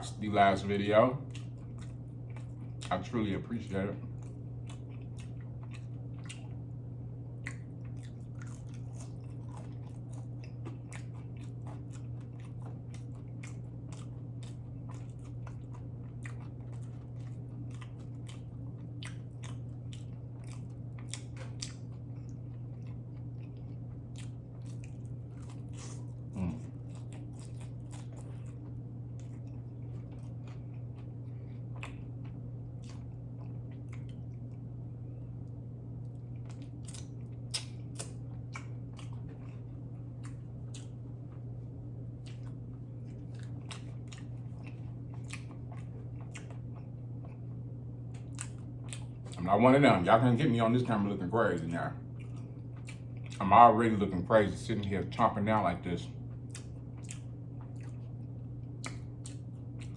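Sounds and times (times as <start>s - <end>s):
chewing and biting food: 0.0s - 59.9s
low hum: 0.0s - 59.9s.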